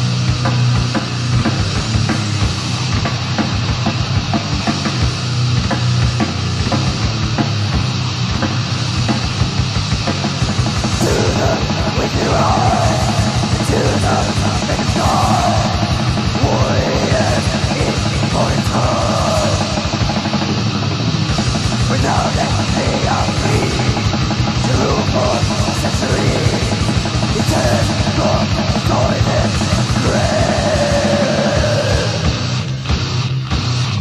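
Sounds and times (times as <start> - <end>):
heavy metal song: 0.0 - 34.0.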